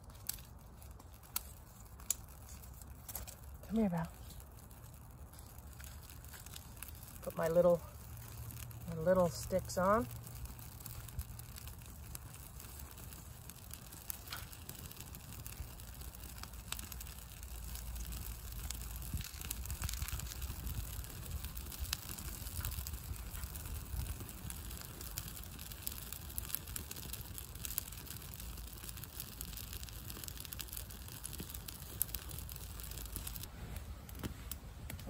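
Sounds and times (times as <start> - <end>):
sharp pops and twig snaps: 0.0 - 8.9, 10.0 - 33.5
small fire crackling: 0.0 - 35.0.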